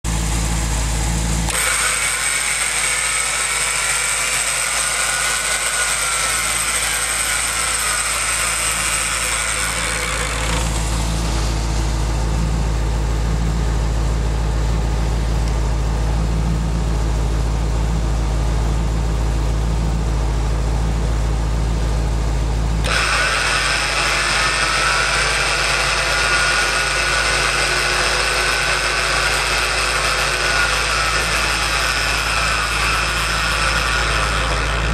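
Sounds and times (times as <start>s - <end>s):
winch motor whining: 0.0s - 18.2s, 19.5s - 34.9s
low hum: 0.0s - 34.9s.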